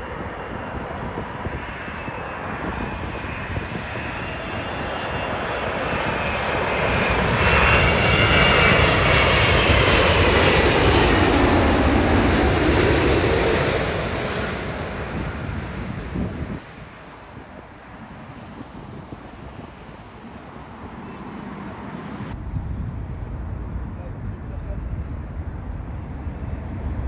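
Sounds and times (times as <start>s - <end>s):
jet airliner passing overhead: 0.0s - 27.0s.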